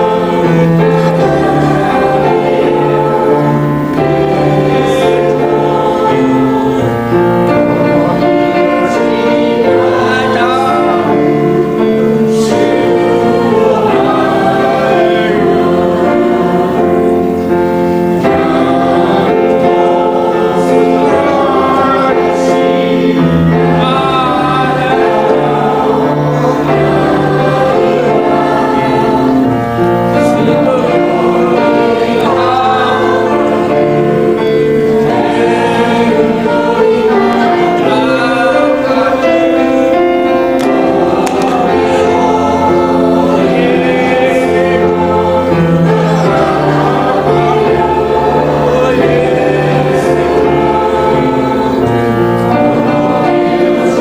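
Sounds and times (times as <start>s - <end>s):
group singing worship song: 0.0s - 54.0s
instrumental accompaniment: 0.0s - 54.0s.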